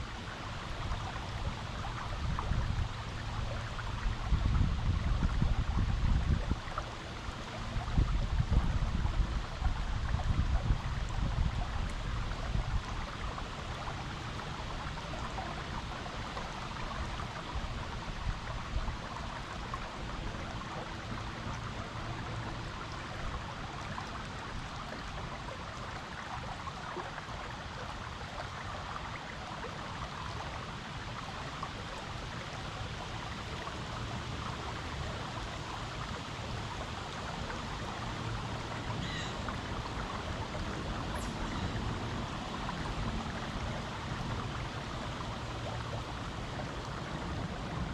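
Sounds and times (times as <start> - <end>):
creek water flowing over rocks: 0.0 - 47.9.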